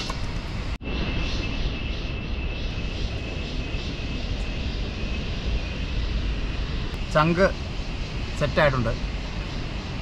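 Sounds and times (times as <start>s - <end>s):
low rumble: 0.2s - 10.0s
thin steady high tone: 0.8s - 10.0s.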